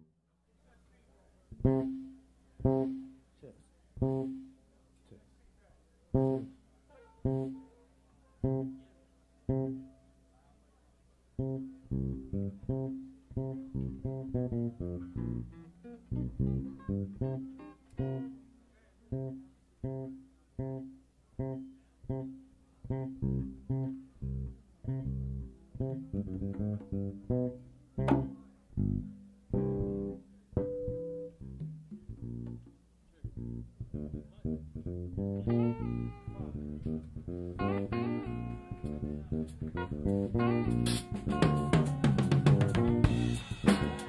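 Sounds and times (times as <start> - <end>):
funk bass and guitar notes: 1.5 - 3.2, 4.0 - 4.5, 6.1 - 7.8, 8.4 - 8.8, 9.5 - 9.9, 11.3 - 44.0.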